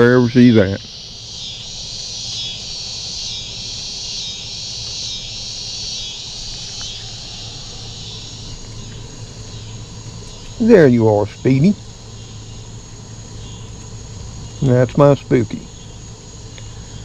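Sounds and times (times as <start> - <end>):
faint low hum: 0.0 - 17.0
insects buzzing shrilly: 0.0 - 17.0.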